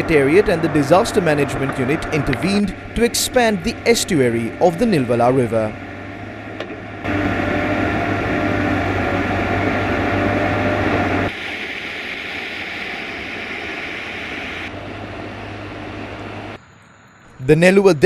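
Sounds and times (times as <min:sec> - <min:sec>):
mechanical noise with low hum: 0:00.0 - 0:17.6.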